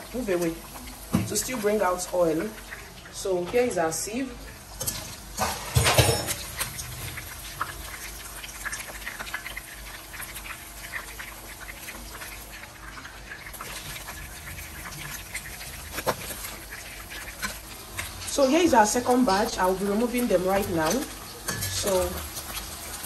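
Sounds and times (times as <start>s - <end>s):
meat sizzling in hot oil: 0.0s - 23.0s.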